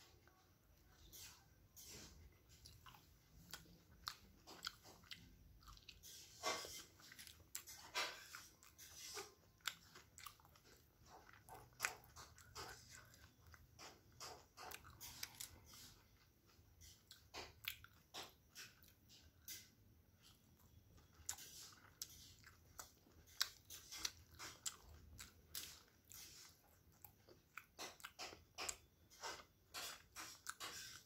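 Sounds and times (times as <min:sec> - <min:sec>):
person chewing food: 0:00.0 - 0:31.0.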